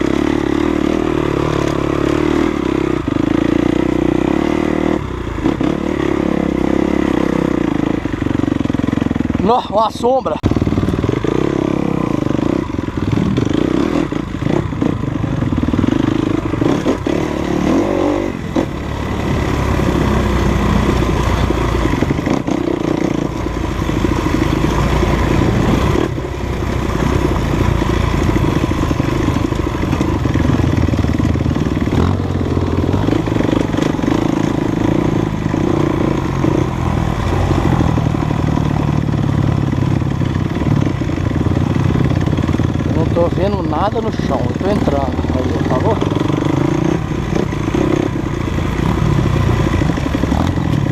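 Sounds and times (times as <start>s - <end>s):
dirt bike engine revving: 0.0s - 50.9s
bike rattling over rough ground: 8.1s - 50.9s.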